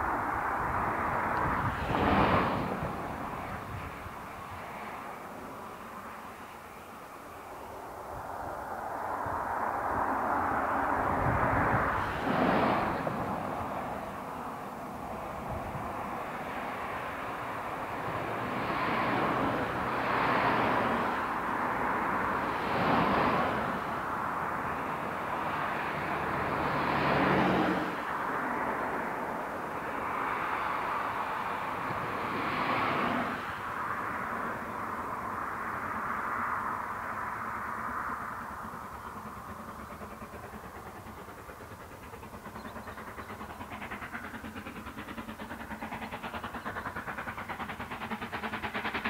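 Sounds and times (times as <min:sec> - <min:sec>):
distant steam locomotive rumble: 0:00.0 - 0:49.0.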